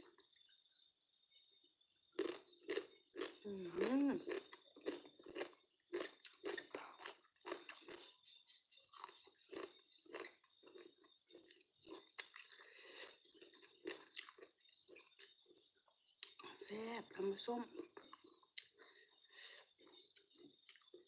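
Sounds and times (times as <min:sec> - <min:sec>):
person chewing crunchy food: 0:02.2 - 0:16.4, 0:17.7 - 0:21.0.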